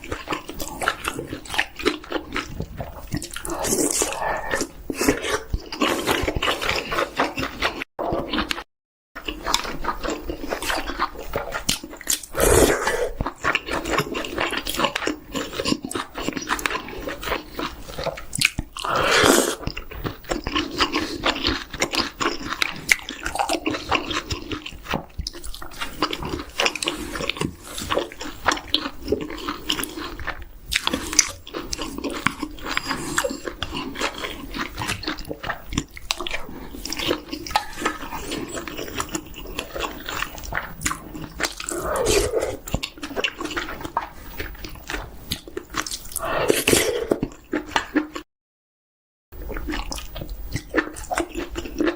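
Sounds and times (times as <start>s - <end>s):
biting and chewing chicken: 0.0s - 48.2s, 49.4s - 51.9s.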